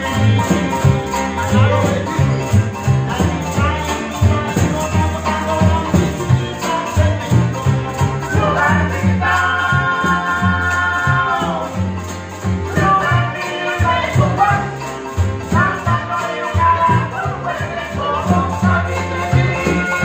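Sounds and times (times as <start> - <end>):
men singing together: 0.0 - 12.1, 12.7 - 20.0
plucked bass: 0.0 - 20.0
rattling shaker: 0.0 - 20.0
strummed acoustic guitars and ukulele: 0.0 - 20.0.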